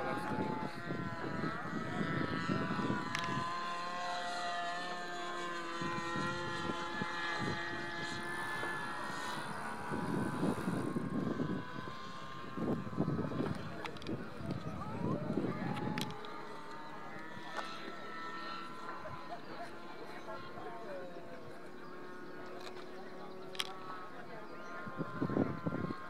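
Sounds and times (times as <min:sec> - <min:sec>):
model aircraft propeller whine: 0:00.0 - 0:26.0
wind rumble on microphone: 0:00.0 - 0:26.0.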